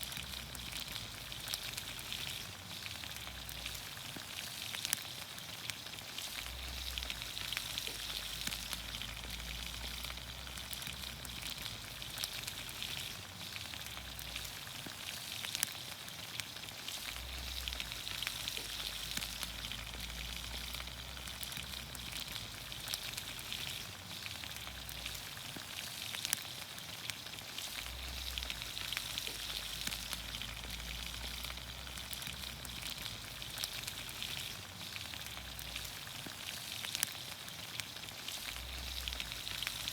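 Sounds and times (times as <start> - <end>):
vegetables sizzling in oil: 0.0 - 39.9.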